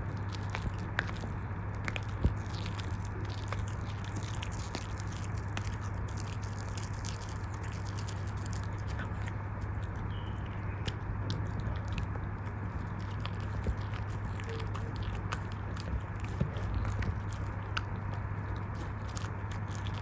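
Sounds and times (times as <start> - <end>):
dog chewing bone: 0.0 - 20.0
low hum: 0.0 - 20.0.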